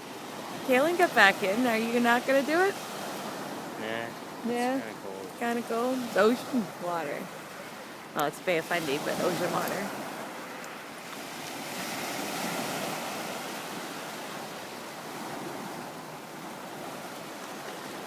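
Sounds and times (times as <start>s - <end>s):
surf breaking on beach: 0.0s - 18.0s.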